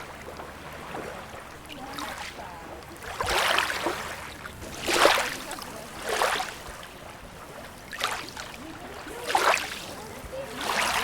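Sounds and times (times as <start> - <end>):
small waves lapping at shore: 0.0 - 11.0
waves splashing: 0.0 - 11.0.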